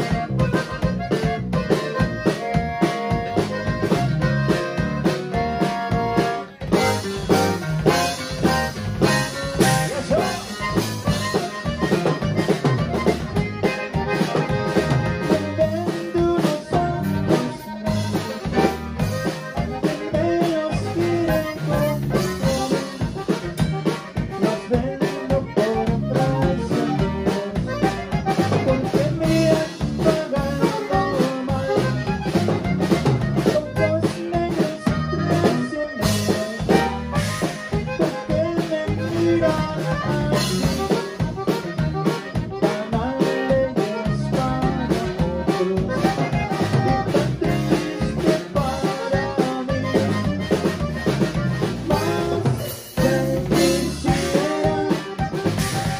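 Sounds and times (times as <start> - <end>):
button accordion: 0.0 - 55.9
live band playing dance music: 0.0 - 55.9.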